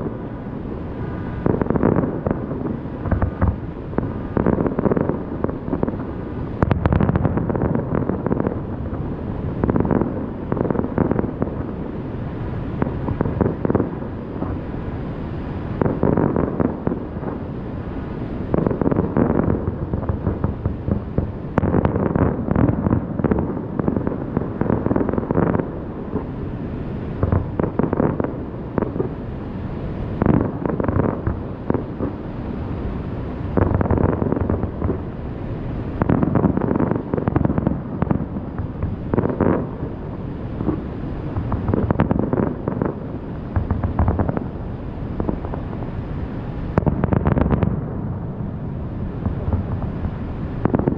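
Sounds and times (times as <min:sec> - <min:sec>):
fireworks booming and crackling: 0:00.0 - 0:50.9
wind noise on microphone: 0:00.0 - 0:50.9.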